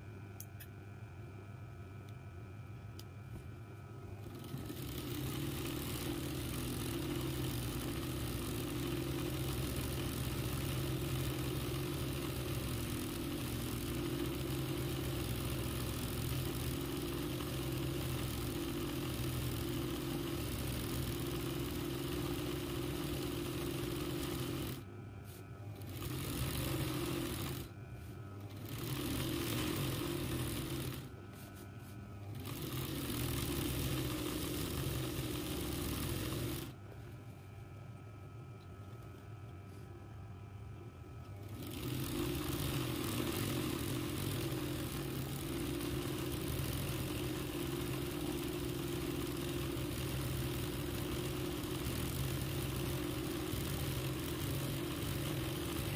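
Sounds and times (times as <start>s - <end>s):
embroidery machine humming: 0.0s - 55.9s.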